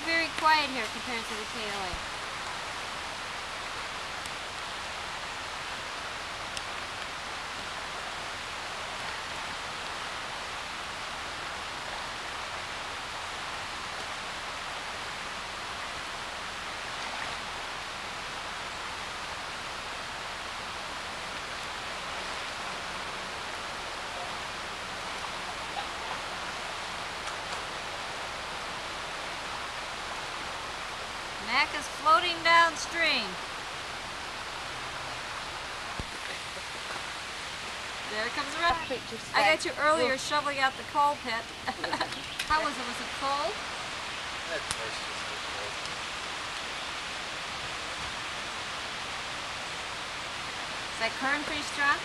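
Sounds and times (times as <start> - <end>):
river rushing over rocks: 0.0 - 52.0.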